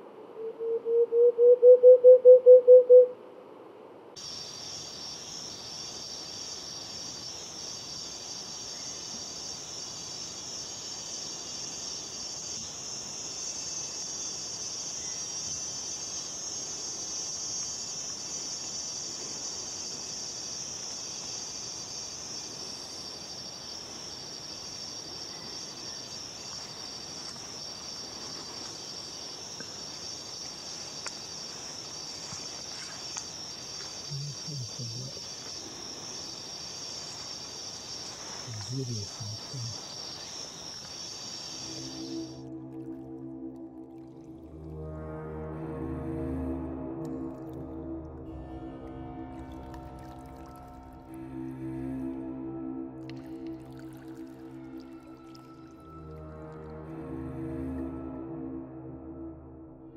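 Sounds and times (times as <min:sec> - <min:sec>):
high-pitched insect chorus: 0:04.2 - 0:59.6
insect trill: 0:04.2 - 0:59.9.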